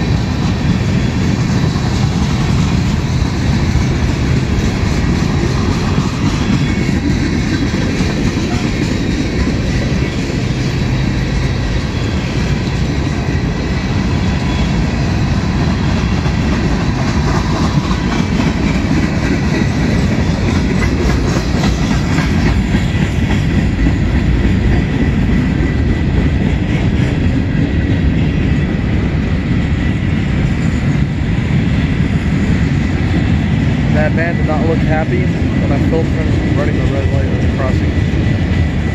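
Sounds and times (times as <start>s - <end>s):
freight train wheels rumbling on rail: 0.0s - 38.9s.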